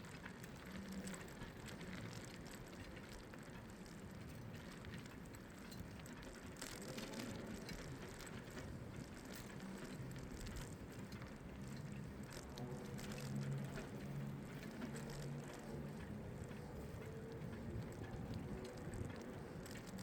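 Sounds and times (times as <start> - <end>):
bicycle tyre noise: 0.0 - 20.0.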